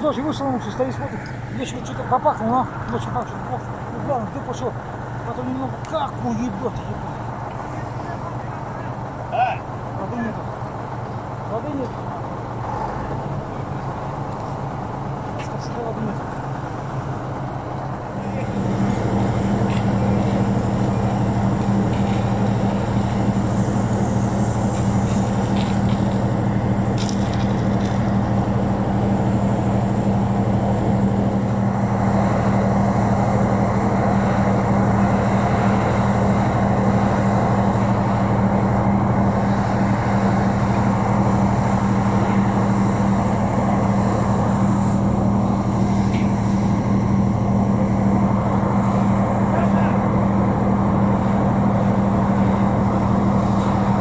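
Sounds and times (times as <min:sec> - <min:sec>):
engine humming steadily: 0:00.0 - 0:54.0.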